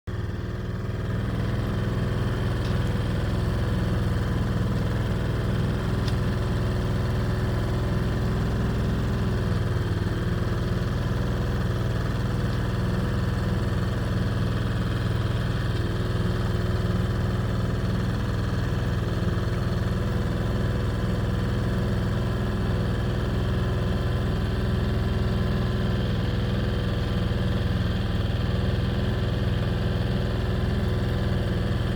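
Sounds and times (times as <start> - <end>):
engine running steadily: 0.1 - 31.9.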